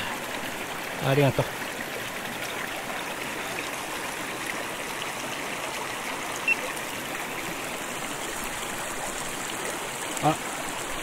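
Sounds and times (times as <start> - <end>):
stream running: 0.0 - 11.0.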